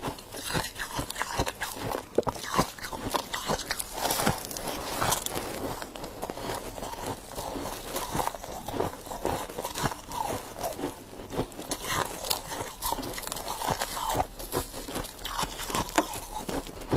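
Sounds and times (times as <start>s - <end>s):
chewing crisp icy crunches: 0.0s - 16.9s.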